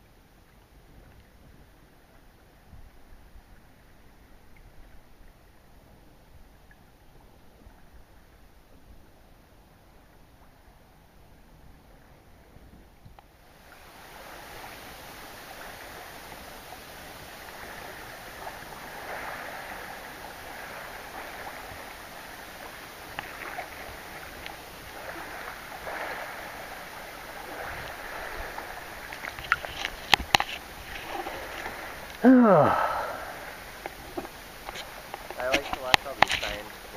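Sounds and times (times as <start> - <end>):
paddle swishing through water: 0.0 - 36.9.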